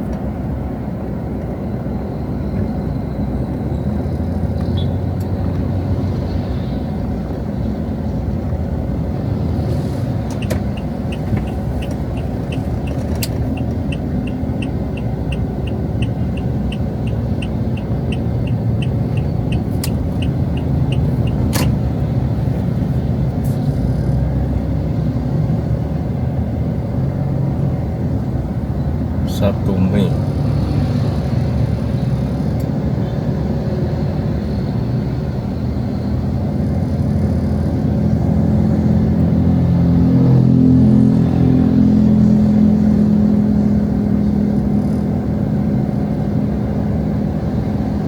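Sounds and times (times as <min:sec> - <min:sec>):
street traffic rumble: 0:00.0 - 0:48.0.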